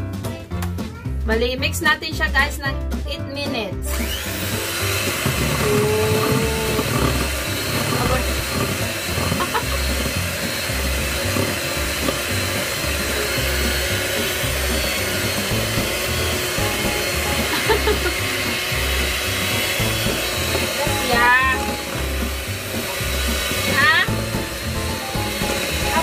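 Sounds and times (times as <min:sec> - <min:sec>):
background music: 0:00.0 - 0:26.0
electric hand mixer whirring: 0:03.9 - 0:26.0.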